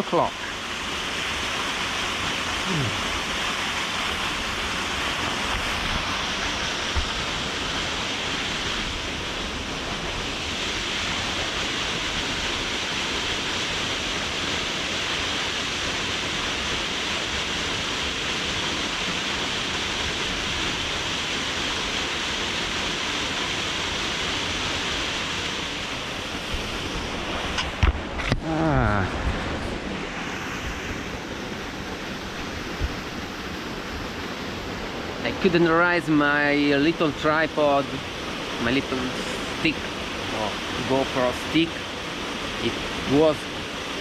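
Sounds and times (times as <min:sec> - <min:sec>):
small waterfall rushing: 0:00.0 - 0:44.0.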